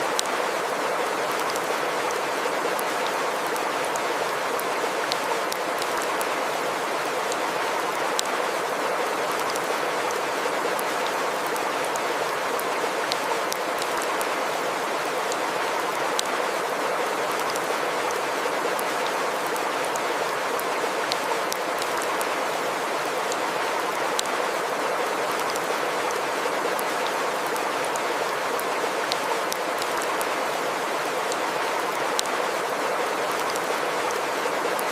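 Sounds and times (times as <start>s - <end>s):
water drips and splashes: 0.0s - 34.9s.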